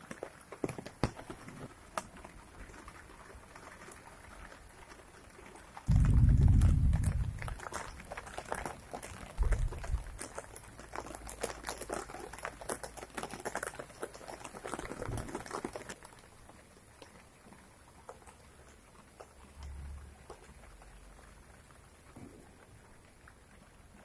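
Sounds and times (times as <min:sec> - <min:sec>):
rain pattering on leaves: 0:00.0 - 0:24.0.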